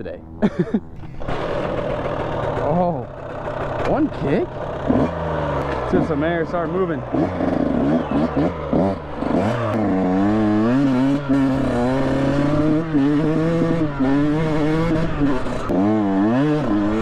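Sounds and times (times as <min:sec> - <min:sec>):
dirt bike engine revving: 0:00.3 - 0:17.0.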